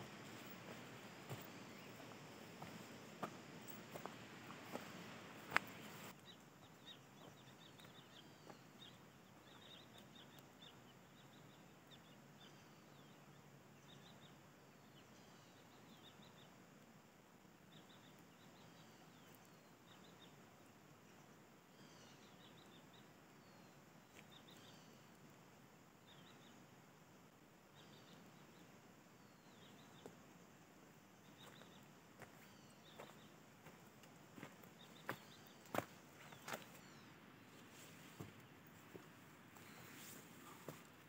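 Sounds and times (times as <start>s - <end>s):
birds chirping: 0.0s - 41.0s
forest ambience hiss: 0.0s - 41.0s.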